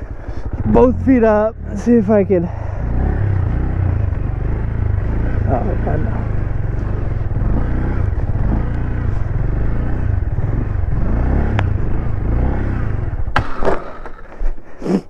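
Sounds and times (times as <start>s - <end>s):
bike riding rumble: 0.0s - 15.0s.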